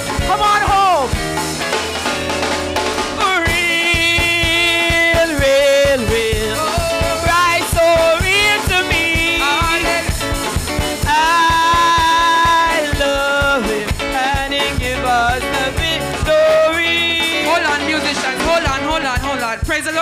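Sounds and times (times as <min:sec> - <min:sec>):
drum and bass rhythm: 0:00.0 - 0:20.0.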